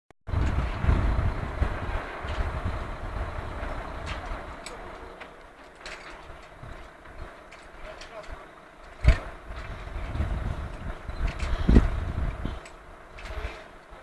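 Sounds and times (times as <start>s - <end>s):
wind buffeting microphone: 0.3s - 14.0s.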